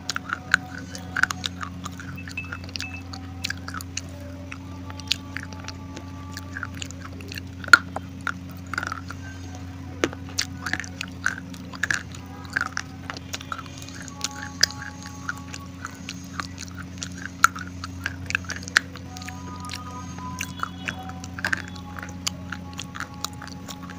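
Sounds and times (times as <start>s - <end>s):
person chewing crunchy clay: 0.0s - 23.9s
steady low hum: 0.0s - 23.9s.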